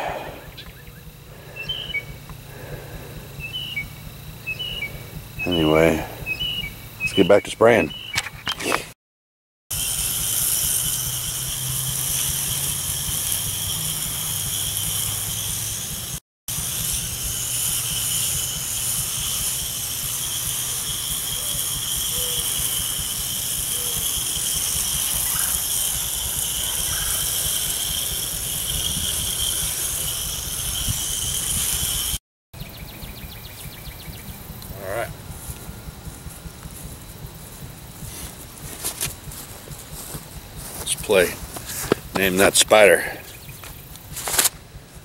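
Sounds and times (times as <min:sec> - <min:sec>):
garden hose spraying hiss: 0:00.0 - 0:09.0, 0:09.7 - 0:45.0.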